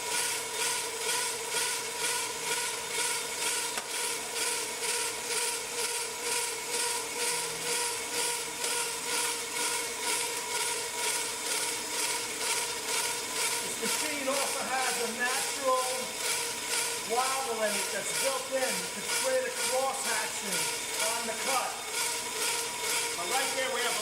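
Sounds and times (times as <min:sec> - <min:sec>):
brake lathe machine whine: 0:00.0 - 0:24.0.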